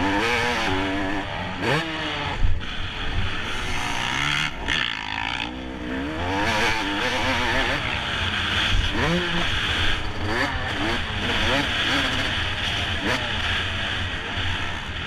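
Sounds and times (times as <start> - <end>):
dirt bike engine revving: 0.0 - 15.0
steady rushing noise: 0.0 - 15.0.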